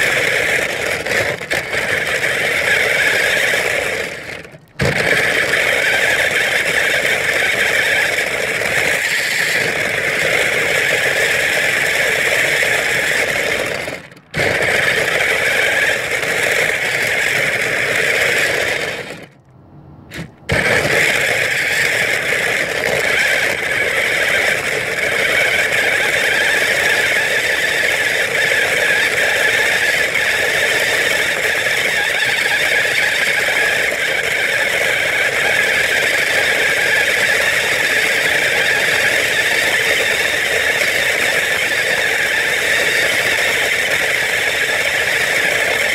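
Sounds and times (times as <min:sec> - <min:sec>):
plastic wheels rattling on ground: 0:00.0 - 0:19.4, 0:20.1 - 0:45.9
toy car motor whine: 0:00.0 - 0:19.4, 0:20.1 - 0:45.9.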